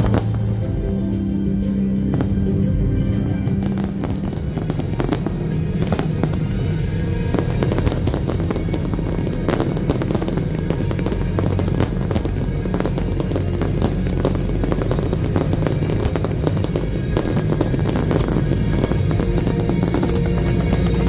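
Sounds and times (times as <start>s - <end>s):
fireworks bursting and crackling: 0.0s - 21.0s
music with low bass: 0.0s - 21.0s.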